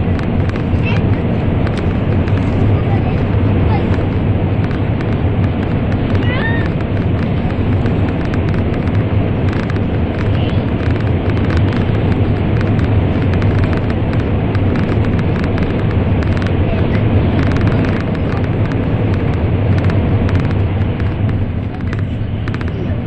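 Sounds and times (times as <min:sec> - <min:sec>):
train rumbling through a tunnel: 0:00.0 - 0:23.0
light rattle ticks: 0:00.1 - 0:22.8.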